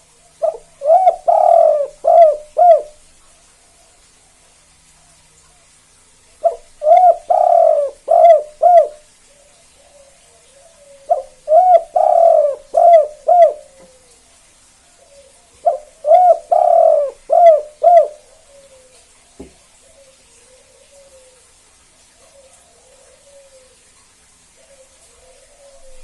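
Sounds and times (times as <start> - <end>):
dove cooing: 0.0 - 3.0, 6.4 - 14.2, 15.0 - 19.2, 19.8 - 26.0.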